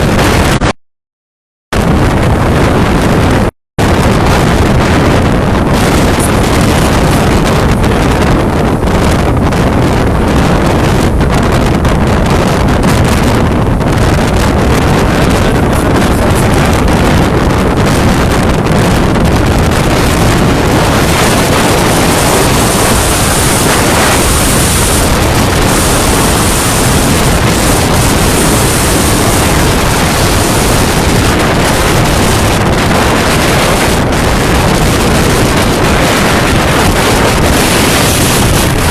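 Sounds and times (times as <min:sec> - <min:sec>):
rough sea surf: 0:00.0 - 0:00.7, 0:01.8 - 0:38.9
strong wind on microphone: 0:00.0 - 0:00.8, 0:01.7 - 0:38.9.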